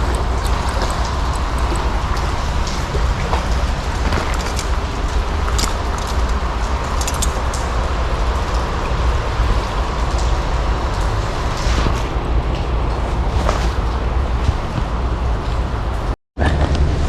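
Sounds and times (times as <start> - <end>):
drops ticking: 0.0 - 16.1
steady rain: 0.0 - 16.2
constant low rumble: 0.0 - 17.0.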